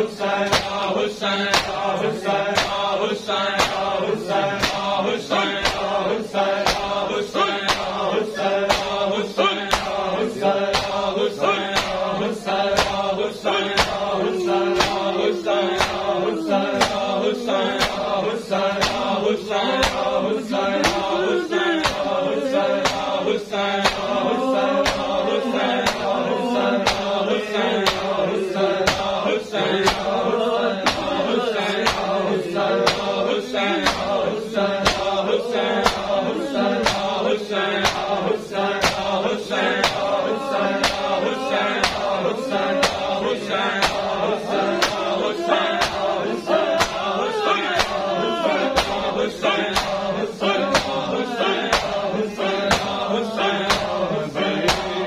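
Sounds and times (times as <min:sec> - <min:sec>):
men chanting in unison: 0:00.0 - 0:55.0
palms slapping chests: 0:00.4 - 0:09.0, 0:09.6 - 0:28.2, 0:28.8 - 0:29.2, 0:30.8 - 0:32.2, 0:32.8 - 0:33.2, 0:33.8 - 0:35.2, 0:37.8 - 0:52.1, 0:52.7 - 0:54.0.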